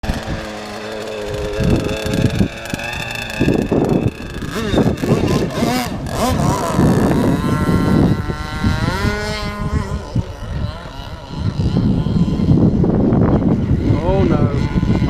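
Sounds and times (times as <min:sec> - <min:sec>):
two-stroke boat engine running: 0:00.0 - 0:15.0.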